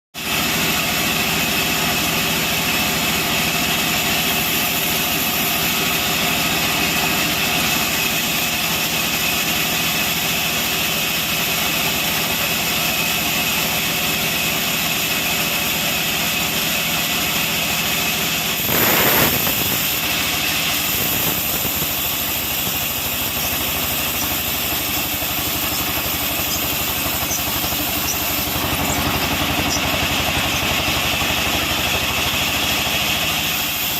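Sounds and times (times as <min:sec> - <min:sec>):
sawmill machinery hum with whine: 0:00.2 - 0:33.9.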